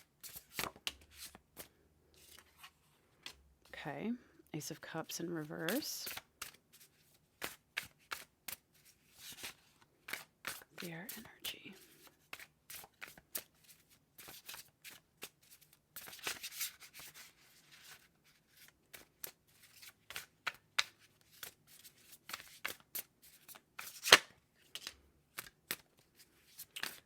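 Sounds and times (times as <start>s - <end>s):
cards being shuffled: 0.2s - 3.4s, 5.4s - 27.0s.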